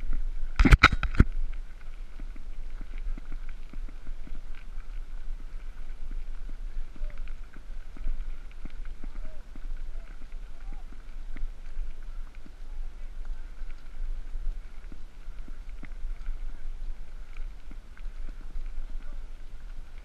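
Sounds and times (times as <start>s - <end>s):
faint footsteps on path: 0.0s - 20.0s.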